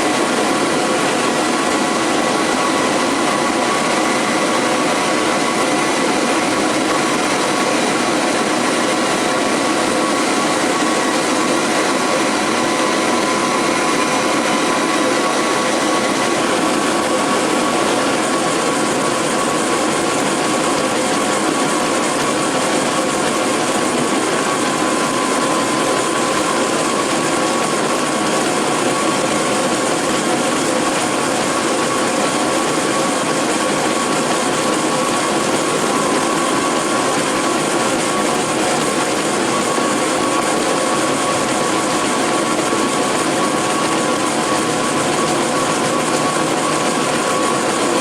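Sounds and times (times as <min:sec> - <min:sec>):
laser engraver whirring: 0:00.0 - 0:48.0.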